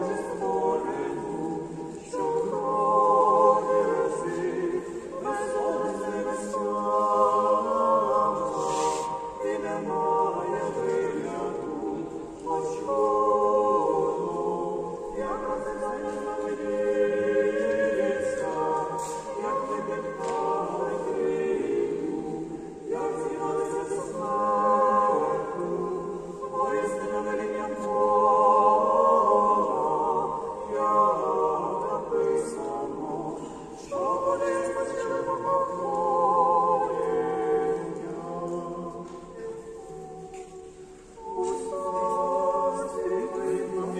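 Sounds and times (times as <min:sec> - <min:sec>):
choir chanting in harmony: 0:00.0 - 0:43.9.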